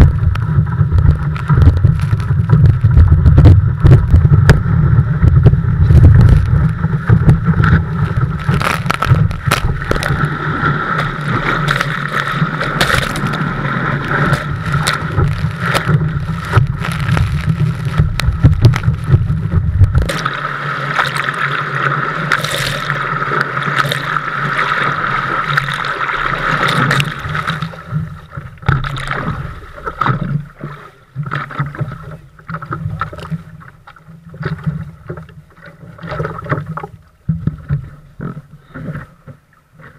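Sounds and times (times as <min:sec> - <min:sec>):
water rushing: 0:00.0 - 0:38.0
wind rumble on microphone: 0:00.0 - 0:39.9
water lapping: 0:03.7 - 0:39.9.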